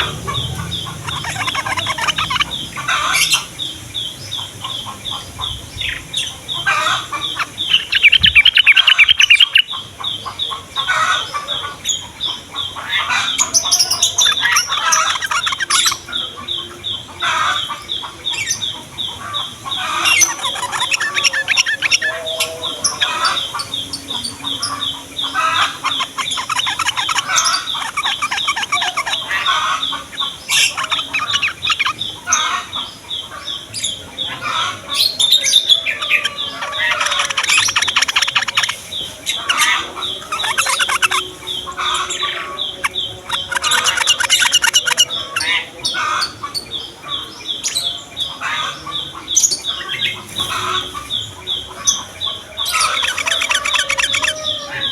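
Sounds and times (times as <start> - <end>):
birds babbling chatter: 0.0 - 54.9
bulbuls chipping: 0.0 - 54.9.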